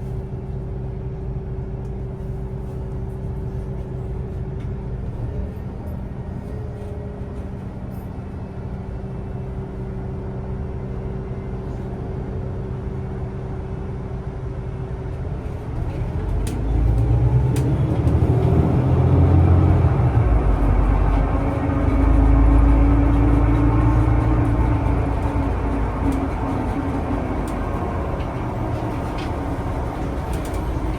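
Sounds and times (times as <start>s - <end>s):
vehicle low rumble: 0.0s - 30.9s
vehicle running with hum and whine: 0.0s - 30.9s.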